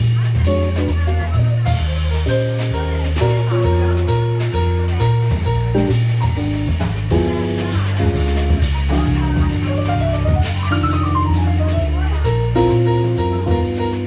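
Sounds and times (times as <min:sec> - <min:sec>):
bass line: 0:00.0 - 0:14.0
drum kit with cymbals: 0:00.0 - 0:14.0
keyboard: 0:00.0 - 0:14.0.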